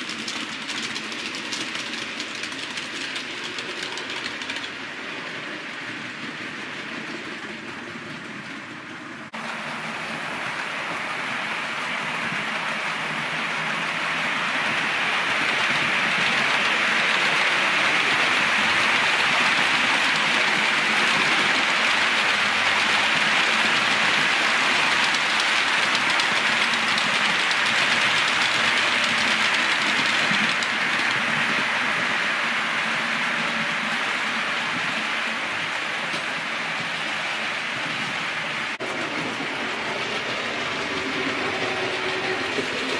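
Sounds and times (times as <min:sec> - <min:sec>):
model train wheels on rails: 0:00.0 - 0:42.9.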